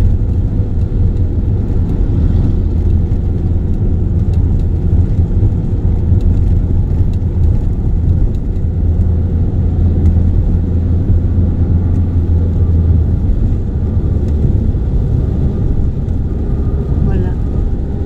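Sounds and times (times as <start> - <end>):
car on wet road from inside: 0.0 - 18.0.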